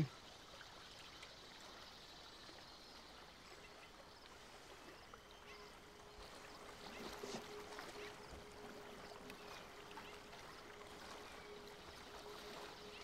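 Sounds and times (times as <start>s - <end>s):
faint steady tone: 0.0s - 13.0s
faint water movement: 0.0s - 13.0s.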